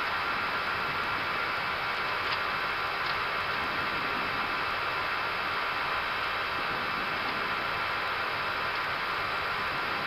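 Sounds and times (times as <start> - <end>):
cockpit airflow hiss: 0.0 - 10.0.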